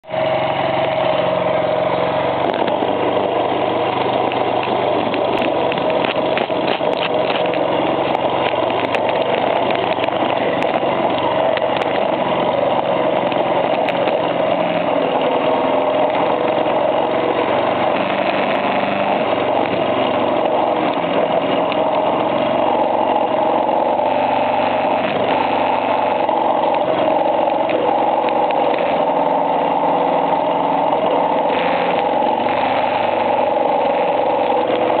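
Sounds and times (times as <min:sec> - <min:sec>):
abnormal noise inside engine: 0:00.0 - 0:35.0
small motorcycle engine running: 0:00.0 - 0:35.0.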